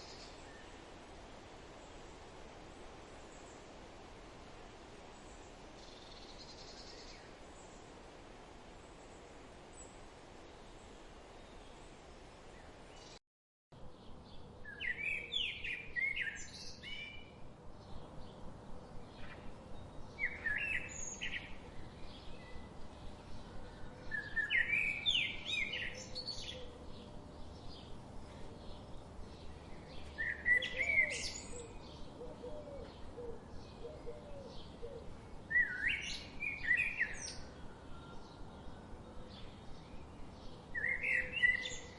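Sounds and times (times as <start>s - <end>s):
songbird singing: 0.0s - 13.2s, 13.8s - 41.9s.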